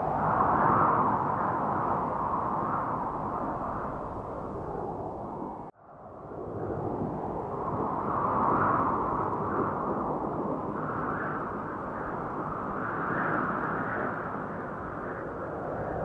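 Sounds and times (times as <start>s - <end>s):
wind noise: 0.0s - 16.0s.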